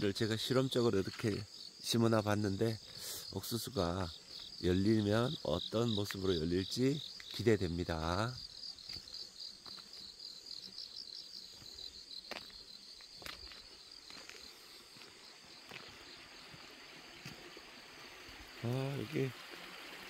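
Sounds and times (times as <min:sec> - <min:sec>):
crickets chirping trill: 0:00.0 - 0:20.0.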